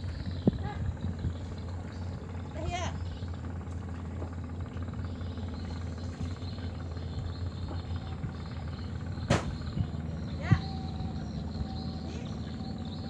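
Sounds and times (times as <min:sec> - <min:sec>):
low engine drone: 0:00.0 - 0:13.0
open-air ambience: 0:00.0 - 0:13.0.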